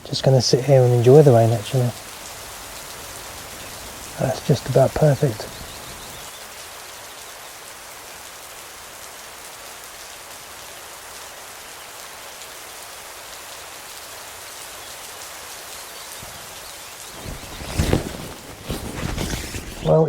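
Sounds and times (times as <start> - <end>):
rain falling under trees: 0.0 - 20.0.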